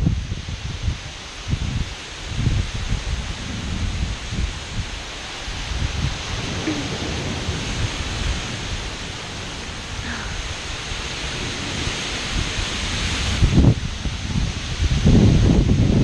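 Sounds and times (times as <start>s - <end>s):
heavy rain pouring: 0.0s - 16.0s
wind buffeting microphone: 0.0s - 16.0s.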